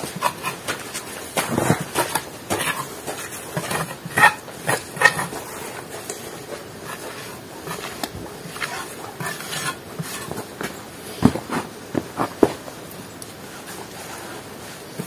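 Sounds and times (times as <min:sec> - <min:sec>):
trowel scraping mortar on brick: 0:00.0 - 0:12.4.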